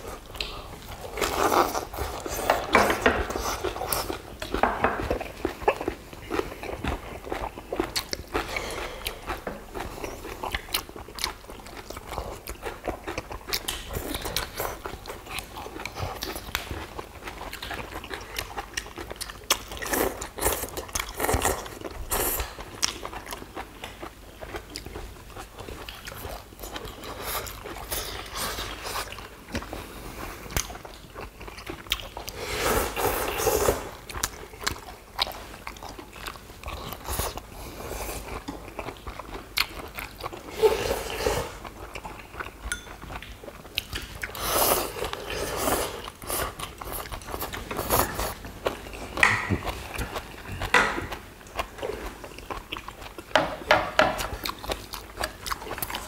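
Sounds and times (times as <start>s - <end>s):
people chewing and biting food: 0.0s - 56.0s.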